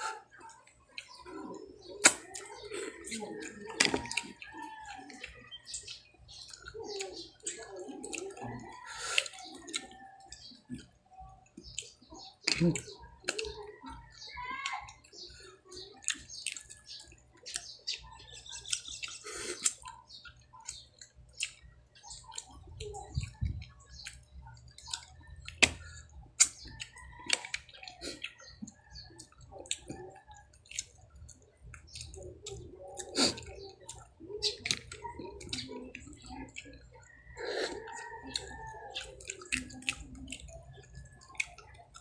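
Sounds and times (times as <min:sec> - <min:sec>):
wet chewing: 0:00.0 - 0:42.0.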